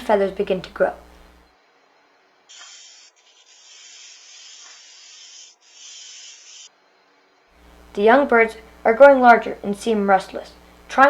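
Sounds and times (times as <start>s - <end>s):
steady hiss: 0.0s - 1.5s, 2.5s - 6.7s, 7.6s - 11.0s.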